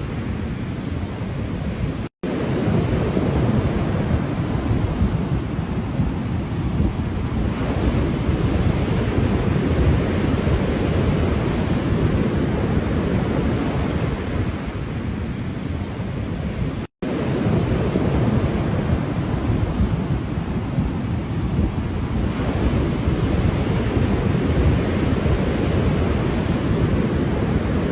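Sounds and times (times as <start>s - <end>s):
ocean waves surf: 0.0s - 27.9s.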